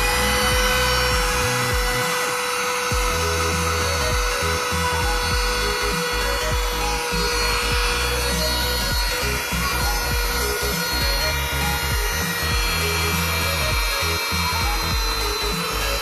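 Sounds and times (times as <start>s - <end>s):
car vacuum cleaner whining: 0.0s - 16.0s.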